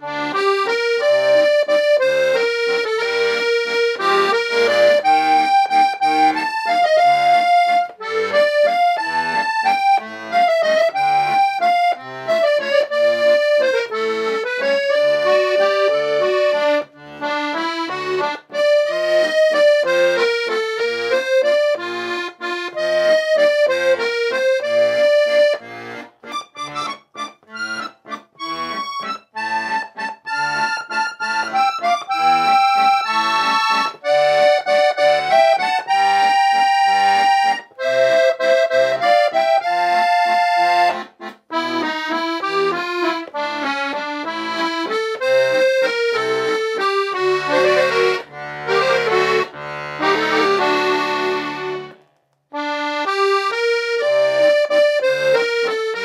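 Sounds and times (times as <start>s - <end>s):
piano accordion waltz melody: 0.0s - 56.0s.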